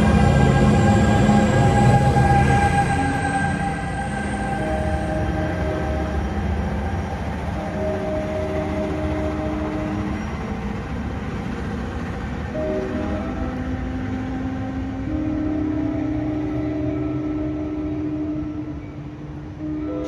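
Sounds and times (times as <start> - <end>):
diesel locomotive rumbling: 0.0 - 20.0
steady tones: 0.0 - 20.0.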